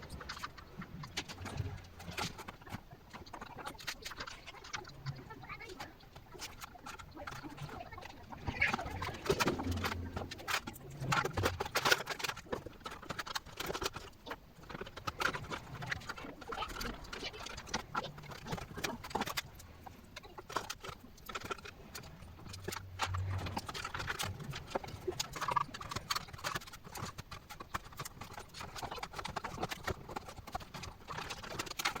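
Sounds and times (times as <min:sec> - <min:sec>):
computer parts clicking and knocking: 0:06.3 - 0:32.0.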